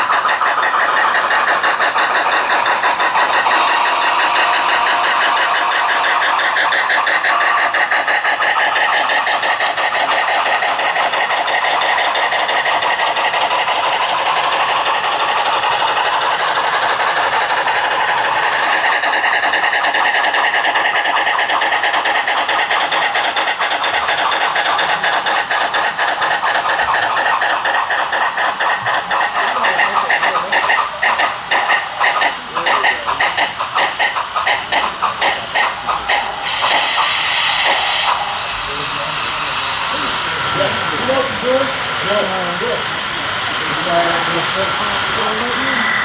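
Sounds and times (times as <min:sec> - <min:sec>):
model steam locomotive chuffing: 0:00.0 - 0:46.0
model train rolling on track: 0:00.0 - 0:46.0.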